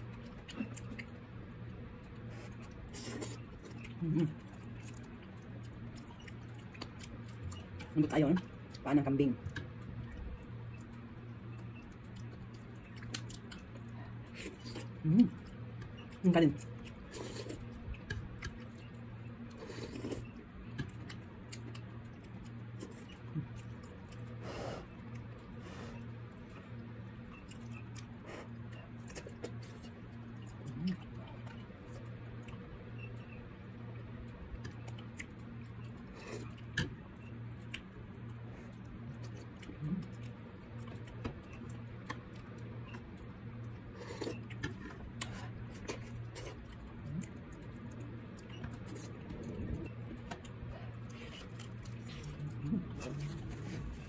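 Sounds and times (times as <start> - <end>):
soft chewing: 0.0 - 54.0
steady low hum: 0.0 - 54.0.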